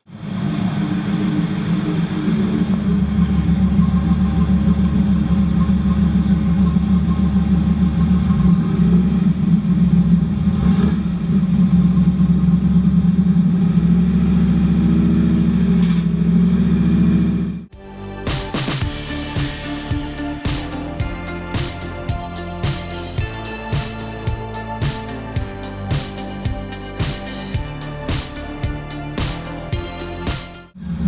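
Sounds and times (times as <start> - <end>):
car engine running steadily: 0.0 - 17.7, 18.3 - 30.6.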